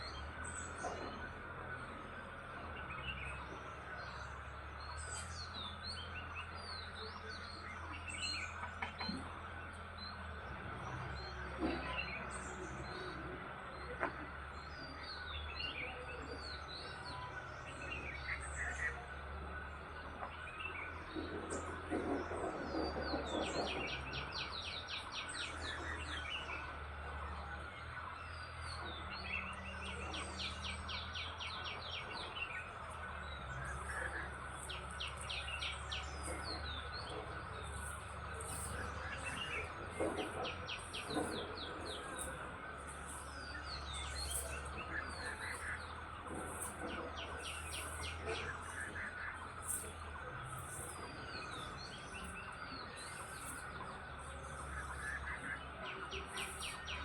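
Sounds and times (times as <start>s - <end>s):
birds chirping: 0.0s - 57.0s
steady low hum: 0.0s - 57.0s.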